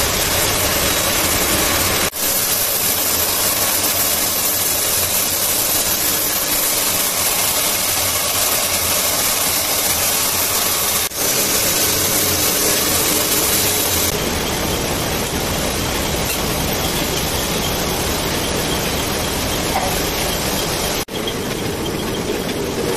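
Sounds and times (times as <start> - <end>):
textile machines hissing: 0.0 - 22.9.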